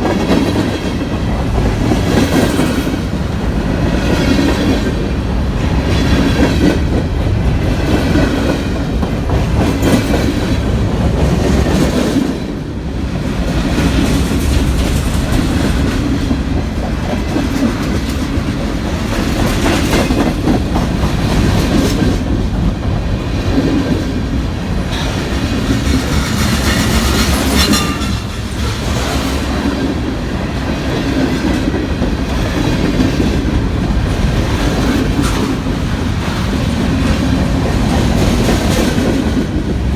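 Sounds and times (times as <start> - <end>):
train wheels clacking over rails: 0.0 - 39.9.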